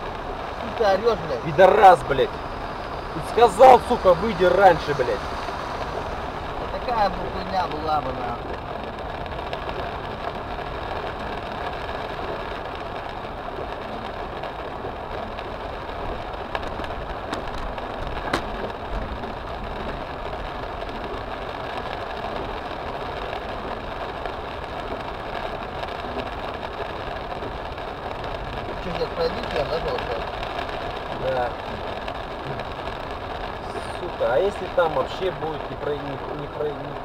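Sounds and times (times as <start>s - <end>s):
water washing over car body: 0.0s - 37.0s.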